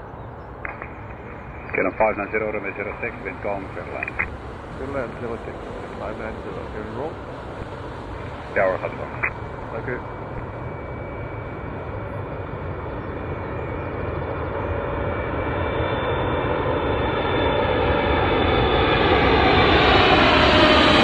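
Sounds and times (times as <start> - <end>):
faint jet engine whine: 0.0 - 21.0
jet airliner approaching: 0.0 - 21.0.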